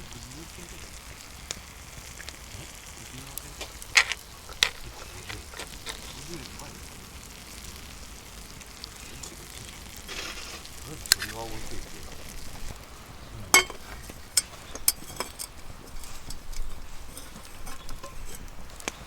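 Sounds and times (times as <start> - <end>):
food sizzling in a skillet: 0.0 - 19.0.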